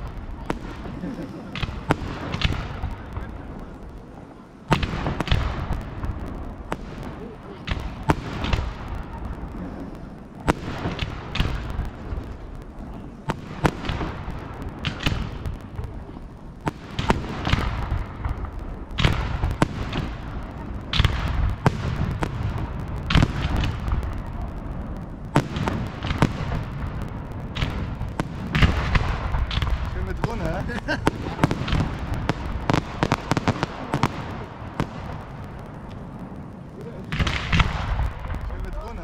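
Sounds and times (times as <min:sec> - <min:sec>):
firework shells bursting: 0:00.0 - 0:39.0
low rumble: 0:00.0 - 0:39.0.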